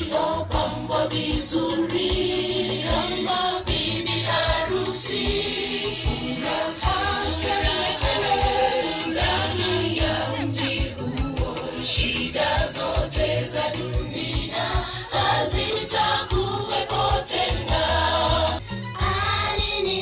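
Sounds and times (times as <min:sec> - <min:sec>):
steady low drum beat: 0:00.0 - 0:19.7
choir singing gospel: 0:00.0 - 0:20.0.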